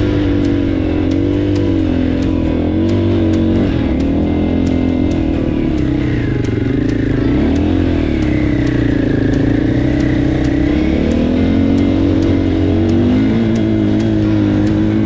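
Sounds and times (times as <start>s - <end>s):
motorcycle engine revving: 0.0s - 15.0s
music: 0.0s - 15.0s.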